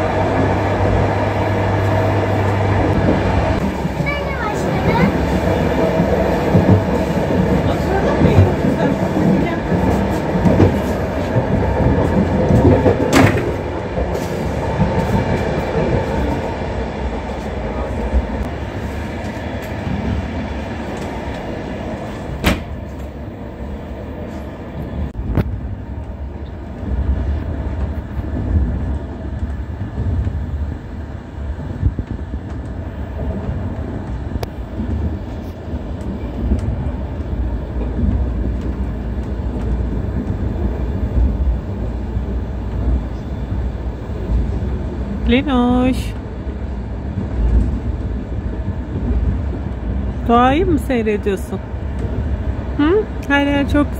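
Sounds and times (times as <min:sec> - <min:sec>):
train wheels rumbling inside carriage: 0:00.0 - 0:53.9.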